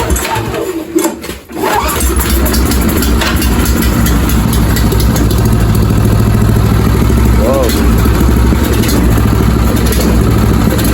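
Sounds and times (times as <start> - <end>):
snowblower engine cranking and running: 0.0 - 10.9.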